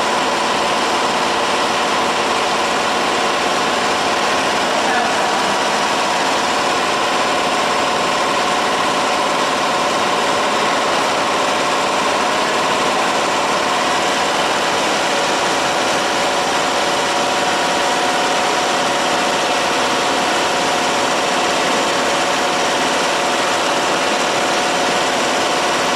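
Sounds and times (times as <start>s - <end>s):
packaging machine humming and whining: 0.0s - 25.9s.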